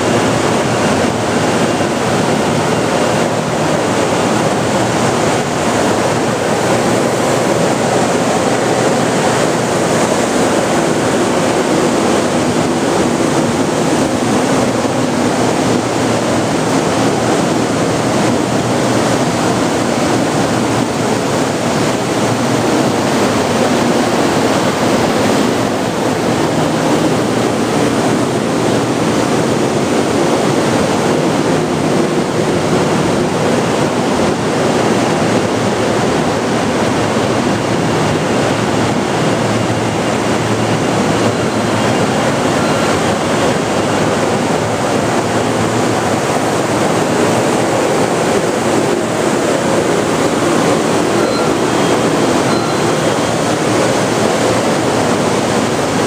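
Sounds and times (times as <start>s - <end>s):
train onboard equipment running: 0.0s - 56.0s.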